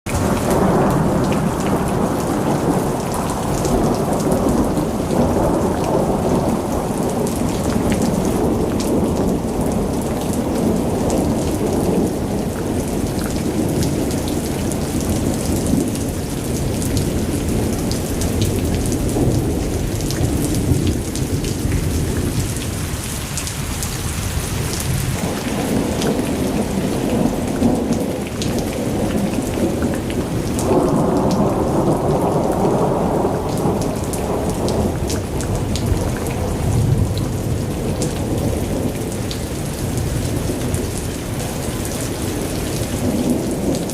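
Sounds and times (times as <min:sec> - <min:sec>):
heavy rain pouring: 0:00.0 - 0:43.9
raindrops pattering on surfaces: 0:00.1 - 0:43.9.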